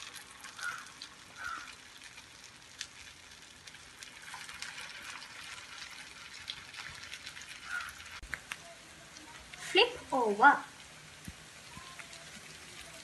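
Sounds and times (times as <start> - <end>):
hot oil sizzling and crackling: 0.0 - 13.0.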